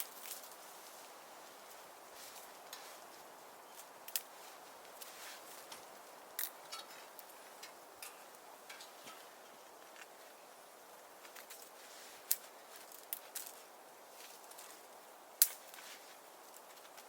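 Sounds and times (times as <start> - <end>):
firewood crackling and popping: 0.0 - 17.0
soft steady hiss: 0.0 - 17.0.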